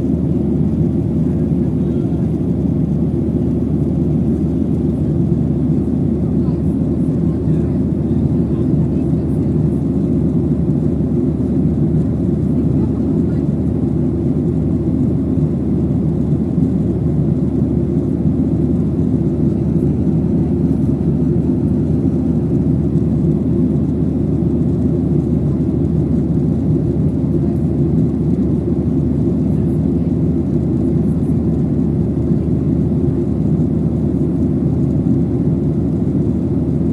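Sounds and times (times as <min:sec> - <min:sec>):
airliner cabin noise: 0:00.0 - 0:36.9.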